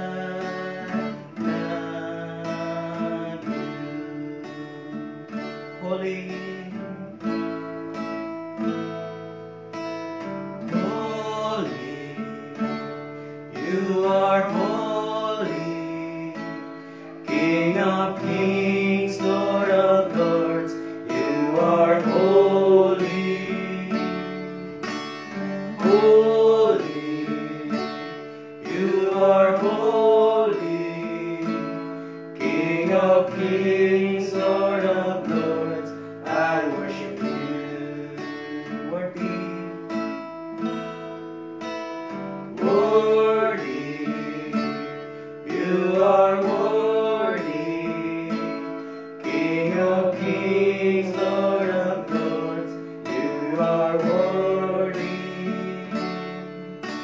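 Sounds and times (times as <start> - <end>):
man singing: 0.0 - 7.6, 10.6 - 41.4, 42.4 - 57.0
strummed acoustic guitar: 0.0 - 57.0.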